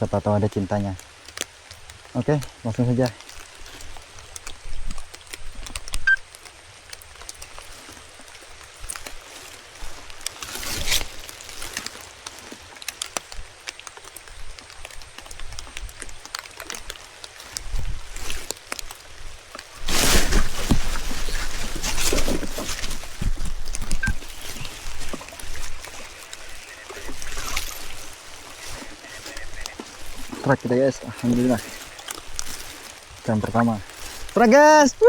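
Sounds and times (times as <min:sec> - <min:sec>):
raindrops pattering: 0:00.0 - 0:35.0
rushing rain noise: 0:00.0 - 0:35.0.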